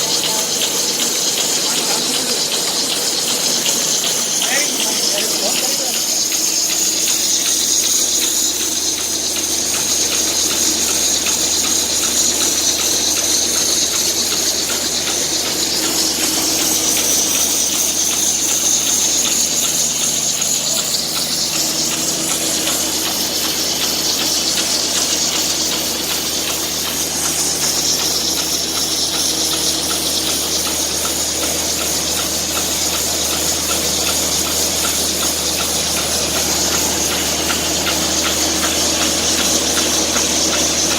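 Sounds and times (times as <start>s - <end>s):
dryer machine rushing air: 0.0s - 40.9s
low machine hum: 0.0s - 40.9s.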